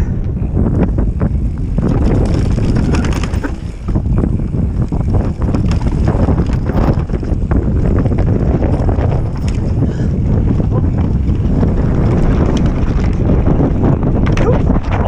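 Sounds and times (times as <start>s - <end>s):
wind buffeting microphone: 0.0s - 15.0s
bike rattling clicks and knocks: 0.3s - 15.0s
tyre noise on dirt: 0.4s - 15.0s.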